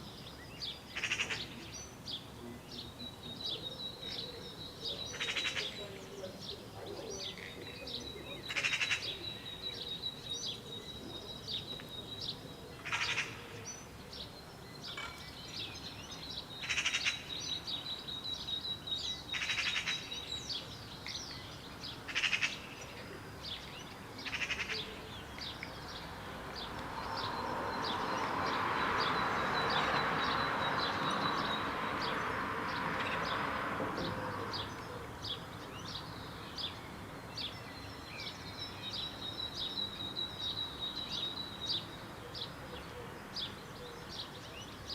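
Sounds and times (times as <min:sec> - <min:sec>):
birds chirping: 0:00.0 - 0:44.9
harsh rattling bird calls: 0:00.0 - 0:44.9.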